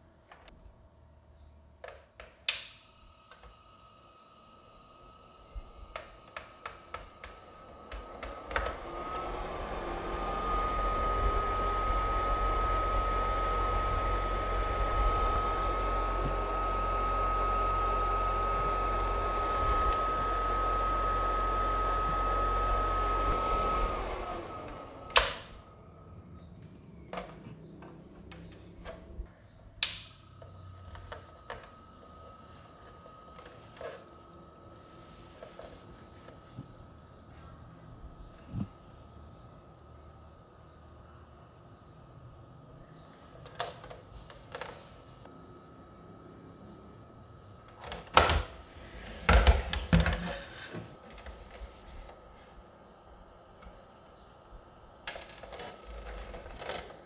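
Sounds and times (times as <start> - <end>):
small fan whirring and whining: 0.0 - 57.0.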